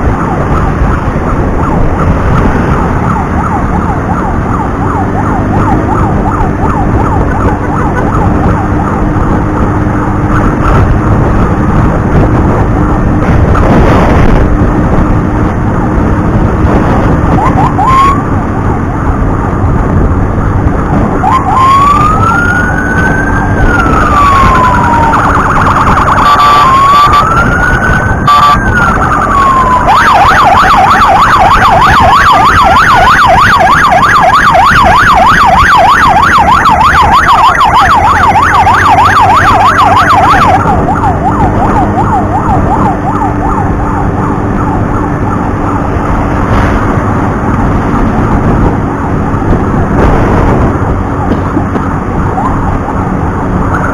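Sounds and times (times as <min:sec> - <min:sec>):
emergency siren wailing: 0:00.0 - 0:53.9
vehicle engine and road noise: 0:00.0 - 0:53.9.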